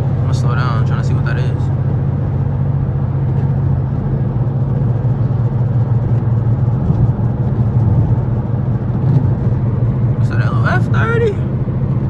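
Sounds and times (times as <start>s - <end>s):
car engine and tyre noise on wet road: 0.0s - 12.0s.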